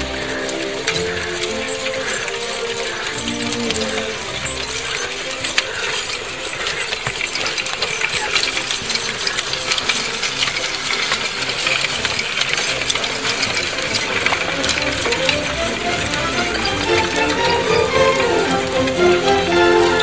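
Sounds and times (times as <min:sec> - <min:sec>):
harness chains clinking: 0:00.0 - 0:20.0.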